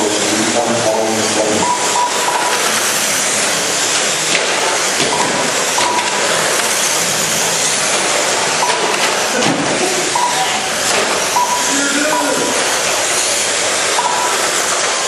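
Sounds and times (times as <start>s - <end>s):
radio-controlled cars racing: 0.0s - 15.0s.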